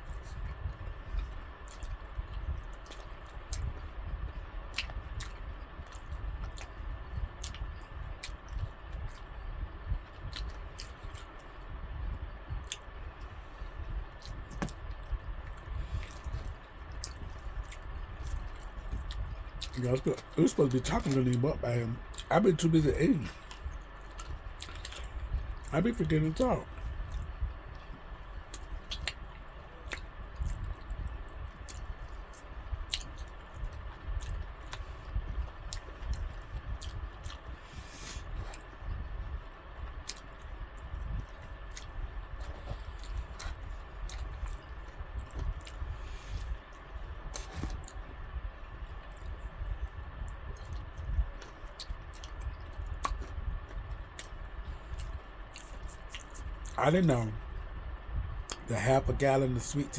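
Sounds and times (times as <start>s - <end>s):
chewing fried chicken: 0.0s - 57.7s, 58.4s - 59.9s.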